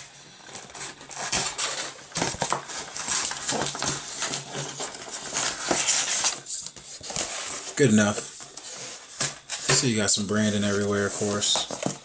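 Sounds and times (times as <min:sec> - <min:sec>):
cardboard packaging rustling: 0:00.0 - 0:12.0.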